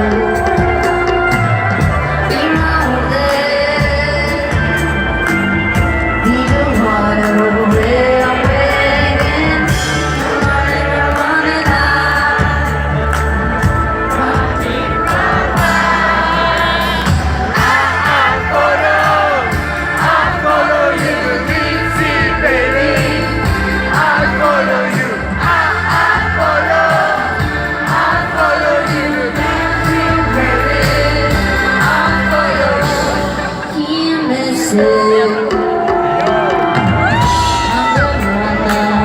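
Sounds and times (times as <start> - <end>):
bass line and beat: 0.0 - 33.5
woman singing live pop song: 0.0 - 39.0.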